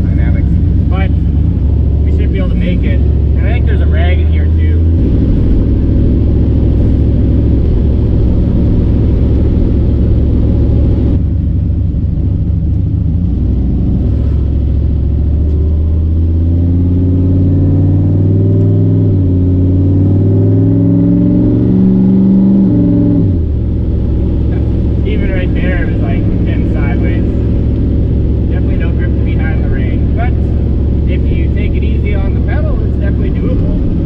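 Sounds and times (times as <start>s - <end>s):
car engine drone inside cabin: 0.0s - 34.0s.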